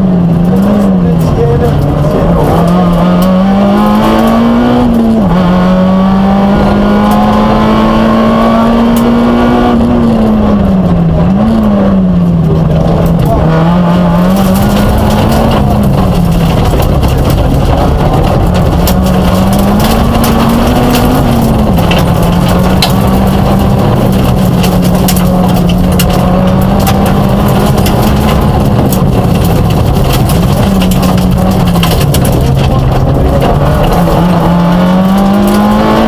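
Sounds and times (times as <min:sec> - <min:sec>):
rally car engine running hard: 0:00.0 - 0:36.0.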